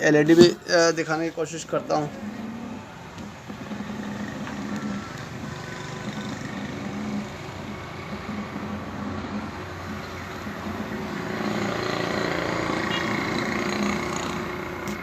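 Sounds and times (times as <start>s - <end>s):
rough television speaker noise: 0.0s - 15.0s
pulsing hum: 1.8s - 15.0s.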